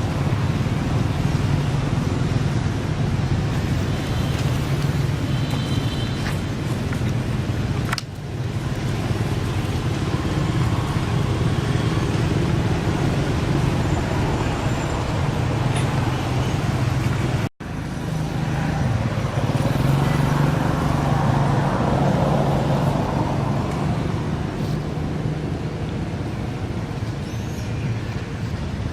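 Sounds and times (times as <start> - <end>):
traffic noise: 0.0 - 28.9.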